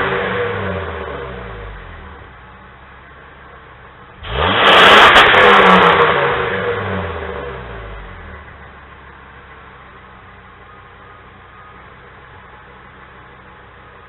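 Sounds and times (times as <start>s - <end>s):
van engine idling and revving: 0.0s - 14.0s.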